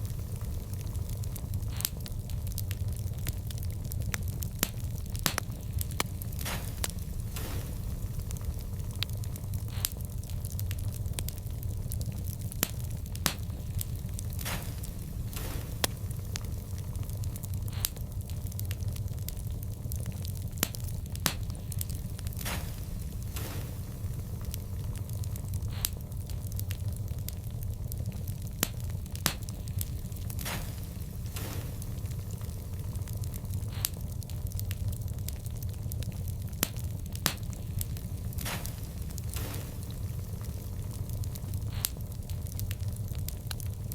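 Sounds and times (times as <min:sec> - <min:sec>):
burning wood crackling: 0:00.0 - 0:43.9
low rumble: 0:00.0 - 0:43.9.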